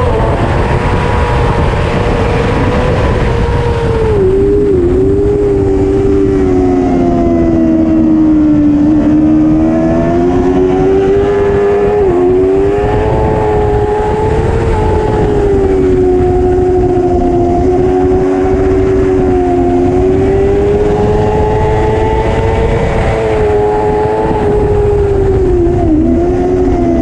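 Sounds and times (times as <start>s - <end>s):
motorcycle engine at high revs: 0.0s - 27.0s.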